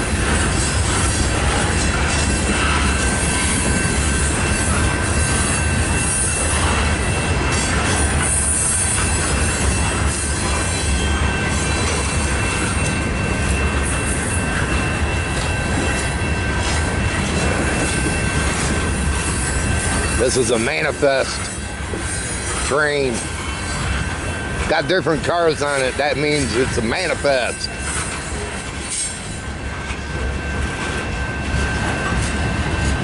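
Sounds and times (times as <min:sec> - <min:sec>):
steel wheels rumbling on rail: 0:00.0 - 0:33.0.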